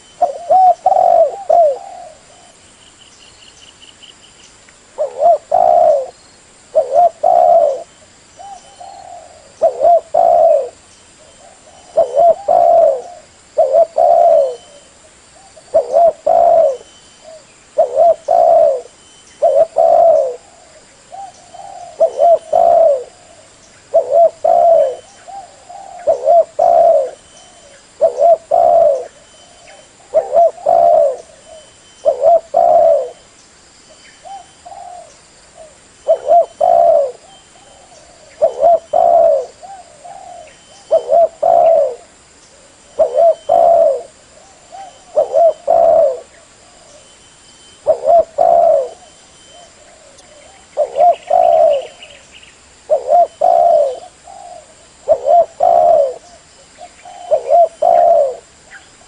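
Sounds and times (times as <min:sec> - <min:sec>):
dove cooing: 0:00.0 - 0:02.6, 0:05.0 - 0:33.2, 0:34.2 - 0:59.0.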